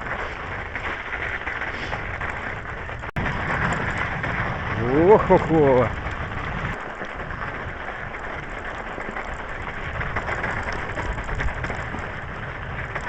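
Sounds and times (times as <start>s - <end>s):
bicycle clicks and knocks: 0.0s - 13.0s
tyres crackling on crusted snow: 0.0s - 13.0s.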